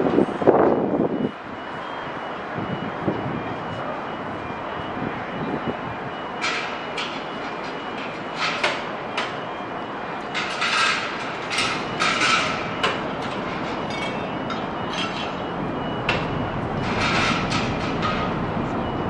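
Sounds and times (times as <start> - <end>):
steady mechanical noise: 0.0 - 19.0.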